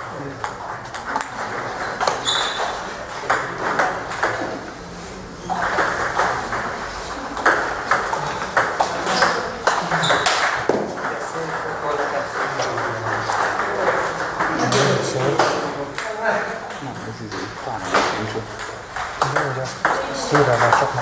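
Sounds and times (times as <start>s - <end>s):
table tennis ball clicking: 0.4s - 4.6s, 7.4s - 20.9s.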